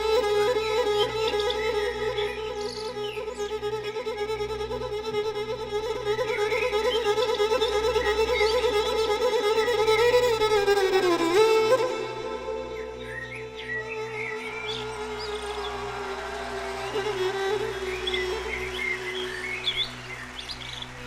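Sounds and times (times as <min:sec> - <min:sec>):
violin with vibrato: 0:00.0 - 0:20.4
low steady accompaniment: 0:00.0 - 0:21.0.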